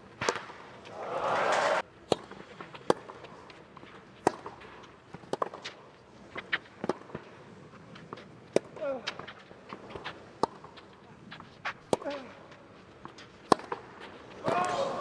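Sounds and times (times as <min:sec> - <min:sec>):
shoes on clay court: 0:00.0 - 0:15.0
rackets striking tennis ball: 0:00.2 - 0:00.9, 0:01.6 - 0:07.4, 0:08.0 - 0:15.0.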